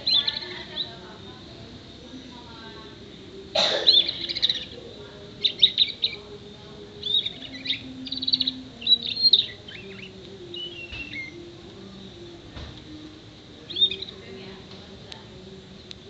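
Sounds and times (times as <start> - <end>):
canary singing chirps and trills: 0.0 - 16.0.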